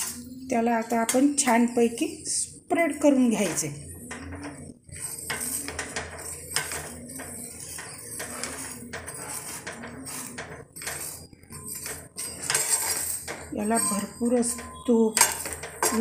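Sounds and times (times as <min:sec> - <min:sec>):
metal spatula scraping a griddle: 0:02.9 - 0:16.0.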